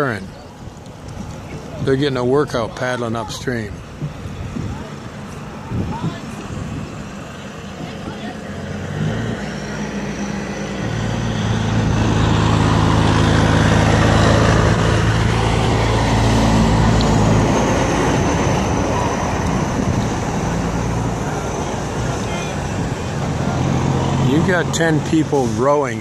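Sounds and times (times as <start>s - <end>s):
vehicle engine hum passing: 0.0s - 26.0s.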